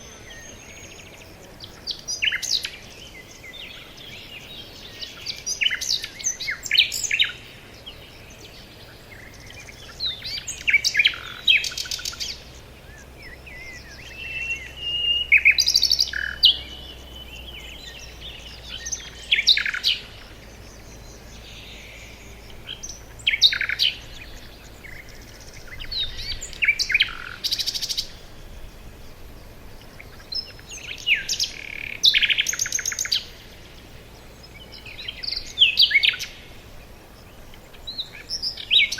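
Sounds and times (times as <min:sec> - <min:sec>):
bird long steady whistle: 0:00.0 - 0:38.9
songbirds chirping and trilling: 0:00.0 - 0:38.9.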